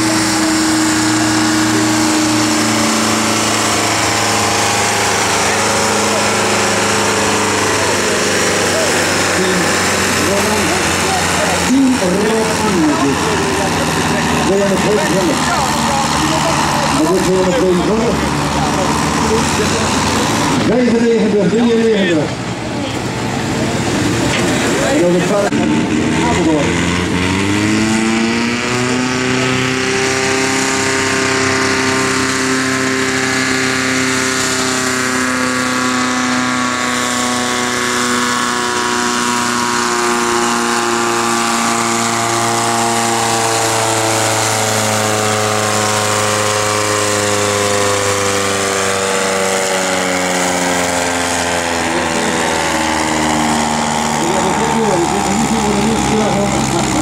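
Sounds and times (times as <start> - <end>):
tractor diesel engine at full load: 0.0 - 57.0.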